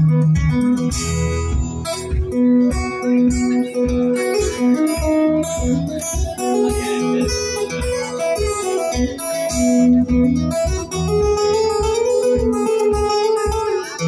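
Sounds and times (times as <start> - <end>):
acoustic guitar playing: 0.0 - 14.0
steady low beat: 0.0 - 14.0.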